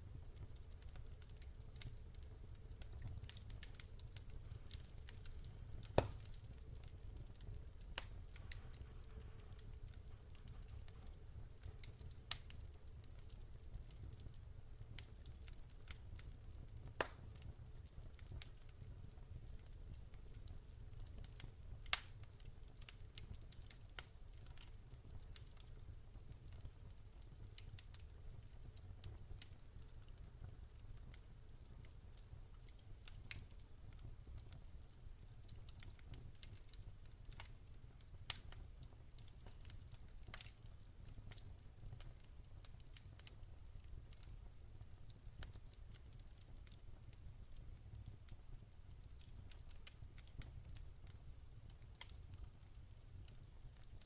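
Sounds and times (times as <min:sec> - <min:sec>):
campfire low rumble: 0:00.0 - 0:53.9
fire crackles and pops: 0:00.0 - 0:54.0.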